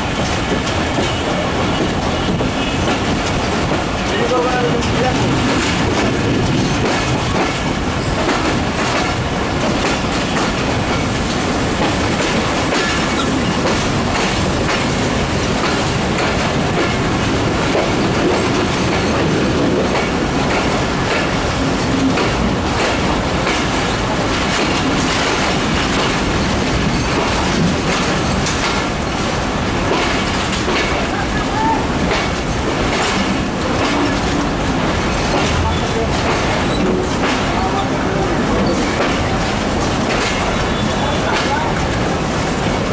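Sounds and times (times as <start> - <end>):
steady loud train rumble: 0.0 - 42.9
train wheels clattering over joints: 0.0 - 42.9.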